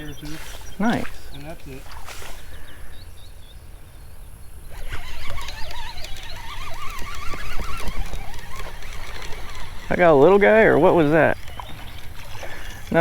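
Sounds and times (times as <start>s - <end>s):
birds warbling: 0.0s - 13.0s.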